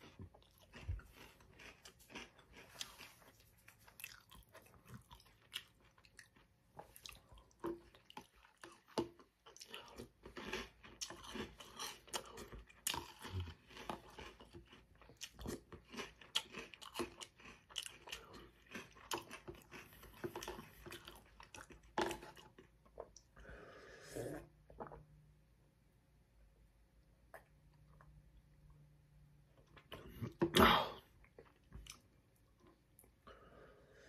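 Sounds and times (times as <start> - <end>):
chewing and crunching cereal: 0.0 - 23.4, 27.0 - 34.0.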